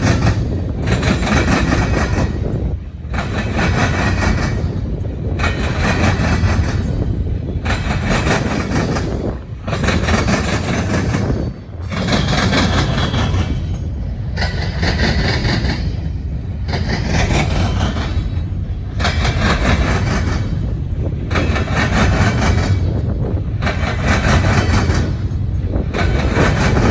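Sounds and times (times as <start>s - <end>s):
freight train rolling past: 0.0s - 26.9s.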